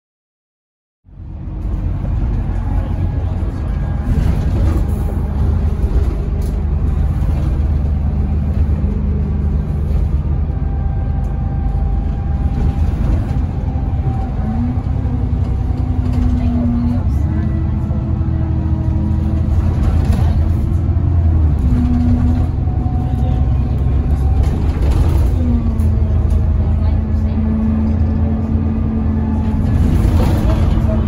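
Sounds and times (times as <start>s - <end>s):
bus engine and road rumble: 1.0s - 31.0s.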